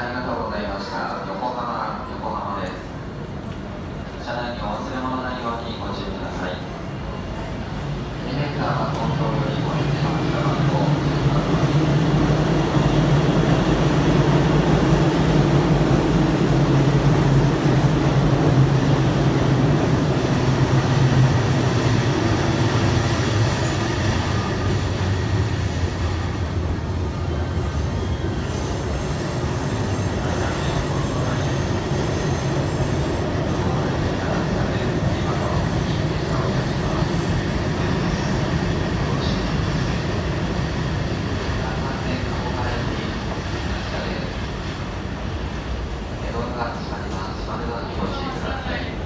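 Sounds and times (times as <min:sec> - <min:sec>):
electric train hum and rumble: 0:00.0 - 0:49.0.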